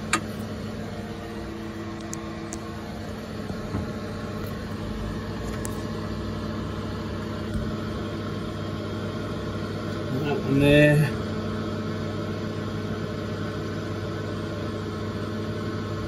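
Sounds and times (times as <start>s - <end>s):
electrical cabinet hum: 0.0s - 16.0s.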